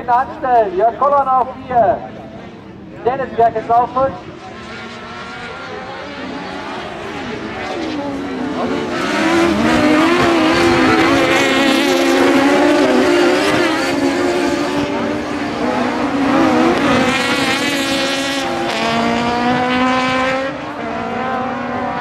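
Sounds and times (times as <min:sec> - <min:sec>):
buggy engines racing at high revs: 0:00.0 - 0:22.0.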